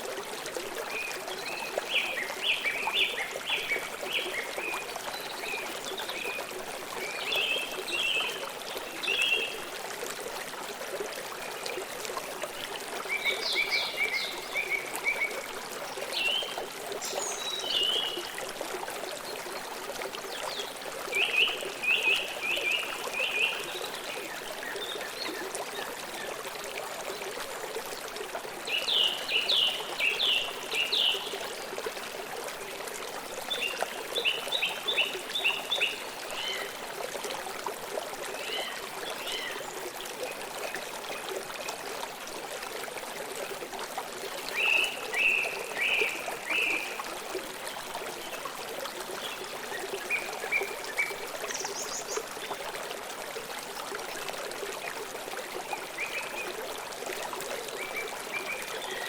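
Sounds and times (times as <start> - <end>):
stream rushing and trickling: 0.0 - 59.0.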